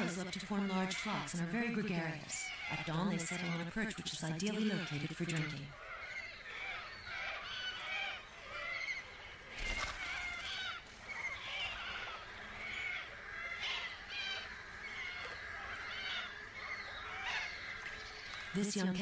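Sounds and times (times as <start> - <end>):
flock of birds screeching: 0.0 - 19.0.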